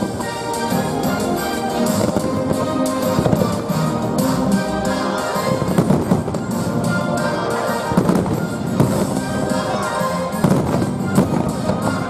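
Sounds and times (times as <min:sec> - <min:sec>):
fireworks bursting with sharp bangs: 0:00.0 - 0:12.0
orchestral music: 0:00.0 - 0:12.0.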